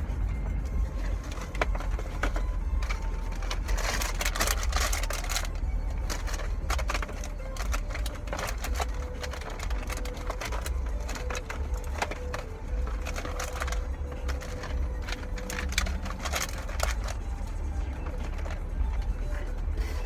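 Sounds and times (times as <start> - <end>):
low steady rumble: 0.0 - 20.0
plastic toys and packaging crinkling: 0.0 - 20.0.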